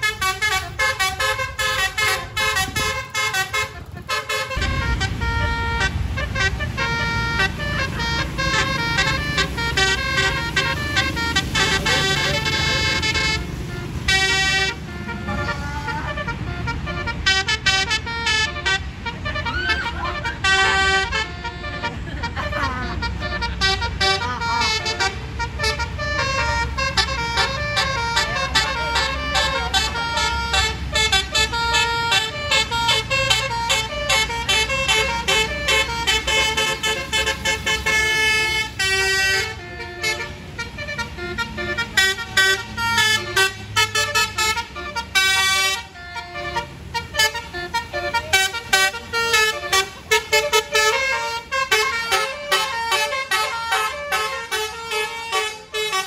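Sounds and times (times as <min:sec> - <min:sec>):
bus engine rumble: 0:00.0 - 0:56.0
musical air horn melody: 0:00.0 - 0:56.0.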